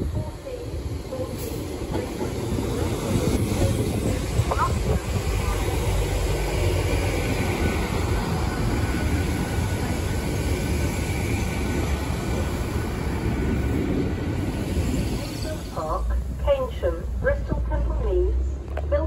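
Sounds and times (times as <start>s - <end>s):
train engine and wheels rumbling: 0.0s - 19.0s.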